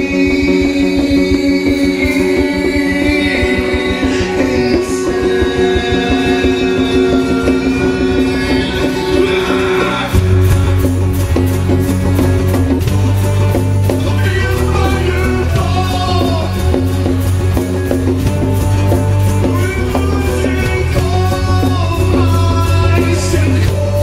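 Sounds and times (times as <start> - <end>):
person singing: 0.0 - 11.3, 13.8 - 24.0
live acoustic rock band: 0.0 - 24.0.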